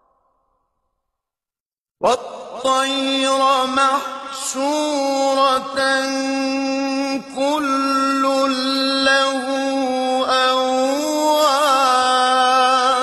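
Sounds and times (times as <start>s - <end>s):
man reciting melodically: 2.0s - 13.0s.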